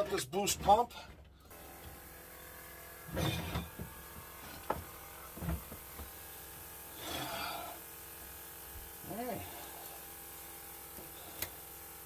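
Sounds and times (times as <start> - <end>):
electric fuel pump humming: 1.4 - 12.0.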